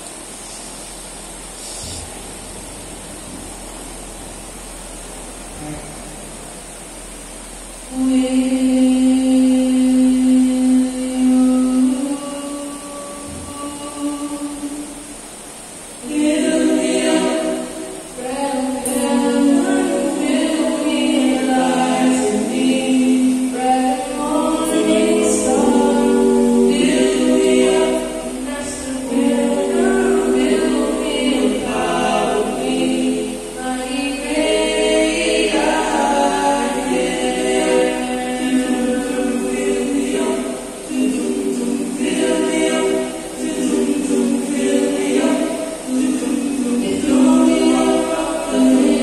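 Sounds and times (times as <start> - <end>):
male a cappella group singing: 7.9 - 15.0, 16.0 - 49.0.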